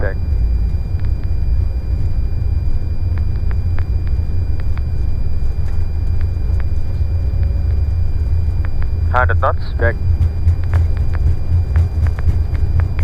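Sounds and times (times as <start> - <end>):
jet engines and wheels rumbling: 0.0 - 13.0.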